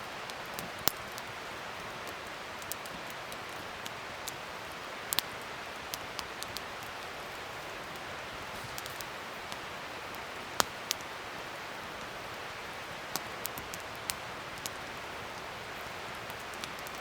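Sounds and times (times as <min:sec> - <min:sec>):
fire crackles and pops: 0:00.0 - 0:17.0
wood fire hissing: 0:00.0 - 0:17.0.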